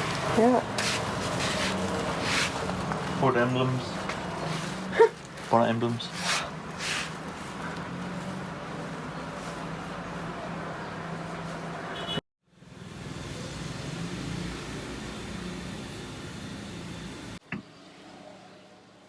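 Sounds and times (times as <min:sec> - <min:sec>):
busy street din: 0:00.0 - 0:18.8.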